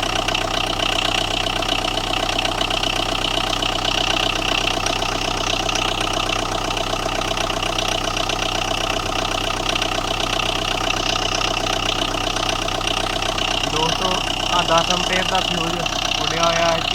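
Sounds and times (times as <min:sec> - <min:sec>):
diesel engine idling with knocking: 0:00.0 - 0:16.9.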